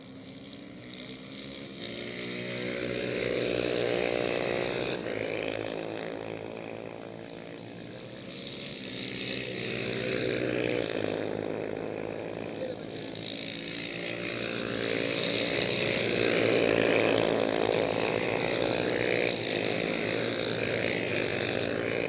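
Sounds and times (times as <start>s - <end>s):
racing motorcycle engines: 0.0s - 22.0s.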